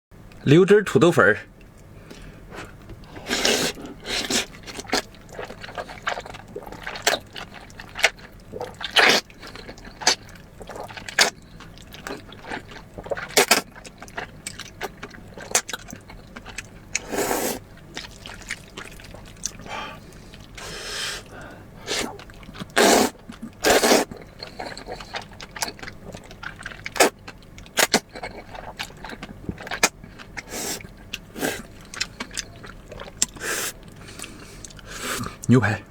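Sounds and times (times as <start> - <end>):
chewing: 1.6 - 35.5
slurping noodles: 2.1 - 35.5.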